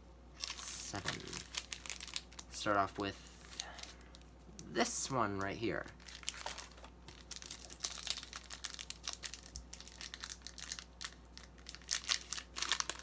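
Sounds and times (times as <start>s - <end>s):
foil wrapper crinkling and tearing: 0.4s - 4.2s, 5.4s - 13.0s.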